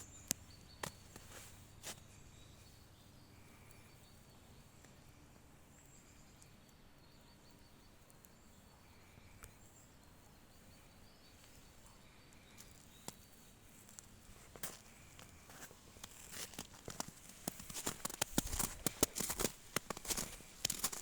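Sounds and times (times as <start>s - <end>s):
faint outdoor hush: 0.0s - 21.0s.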